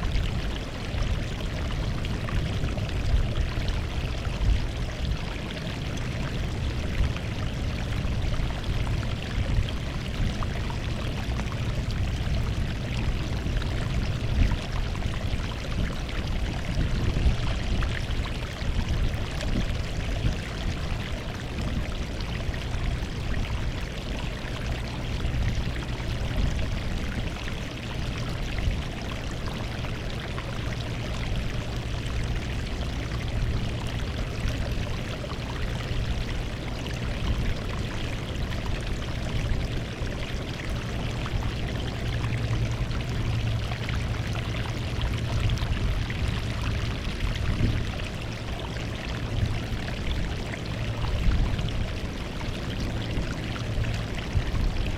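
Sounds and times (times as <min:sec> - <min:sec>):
low rumble: 0:00.0 - 0:54.9.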